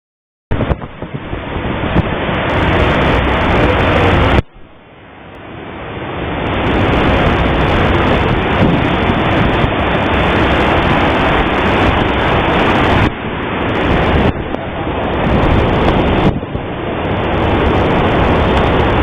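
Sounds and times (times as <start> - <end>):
wind buffeting microphone: 0.5 - 4.8, 5.5 - 19.0.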